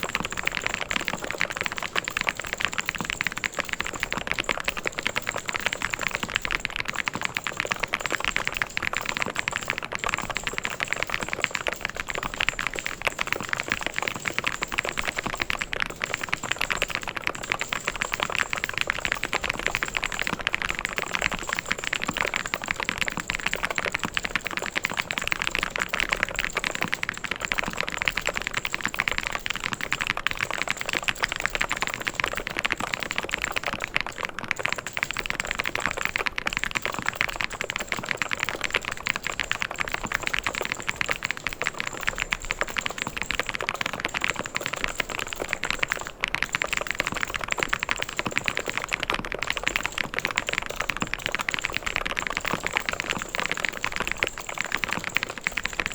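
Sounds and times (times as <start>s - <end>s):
typing on mechanical keyboard: 0.0s - 55.9s.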